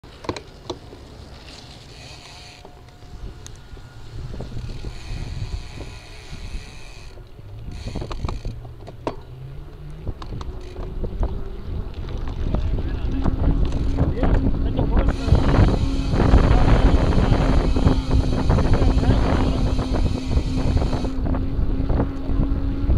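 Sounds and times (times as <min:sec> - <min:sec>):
bicycle tyre rumbling on pavement: 0:00.0 - 0:22.9
wind on microphone: 0:03.0 - 0:08.7, 0:09.6 - 0:22.9.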